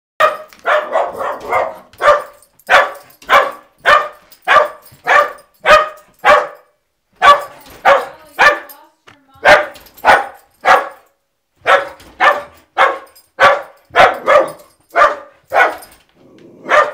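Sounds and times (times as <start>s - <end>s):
small dog barking: 0.2s - 8.8s, 9.4s - 16.0s, 16.6s - 16.9s.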